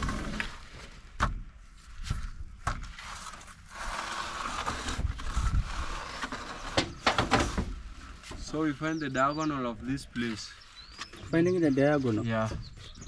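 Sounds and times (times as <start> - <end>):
rough scraping: 0.0 - 13.0.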